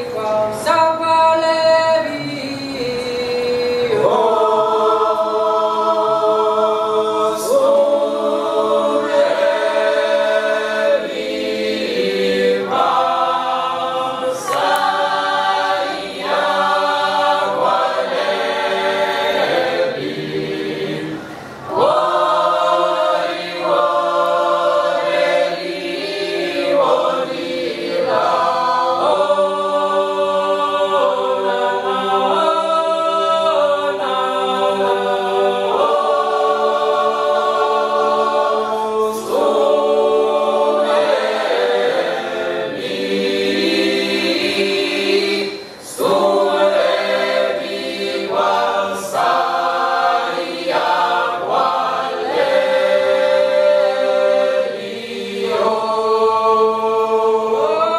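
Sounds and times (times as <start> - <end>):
mixed choir singing a cappella: 0.0 - 57.9.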